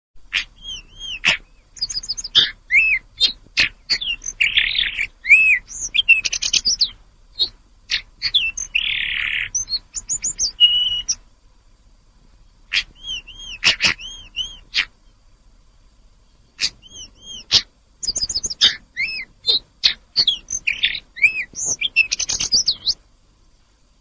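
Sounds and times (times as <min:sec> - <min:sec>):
harsh raspy bird notes: 0:00.2 - 0:11.2, 0:12.6 - 0:15.2, 0:16.3 - 0:23.0
songbird singing: 0:00.2 - 0:24.0.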